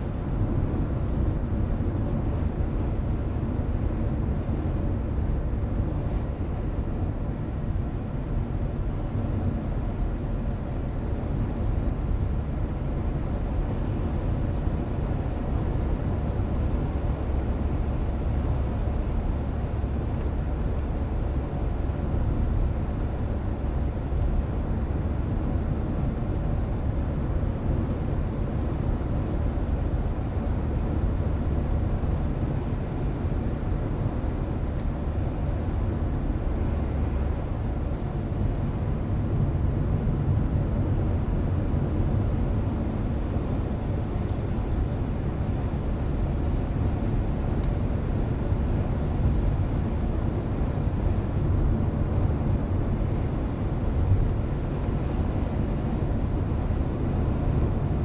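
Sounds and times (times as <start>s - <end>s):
car driving heard from inside: 0.0s - 58.0s.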